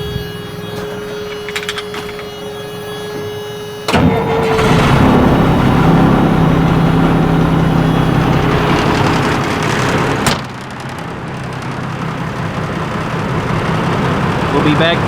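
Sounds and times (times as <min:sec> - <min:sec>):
steady warning tone: 0:00.0 - 0:15.0
truck engine starting and idling: 0:00.0 - 0:15.0.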